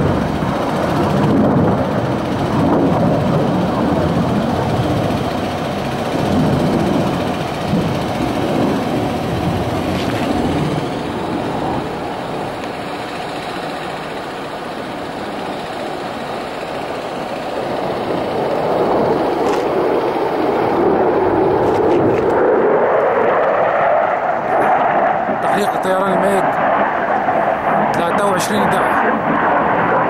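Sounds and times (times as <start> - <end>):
jet engine rushing overhead: 0.0 - 30.0.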